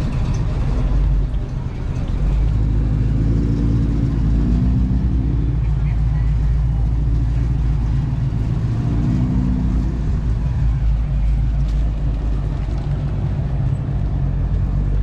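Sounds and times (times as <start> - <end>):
car engines idling: 0.0 - 15.0
faint voices: 1.2 - 13.3.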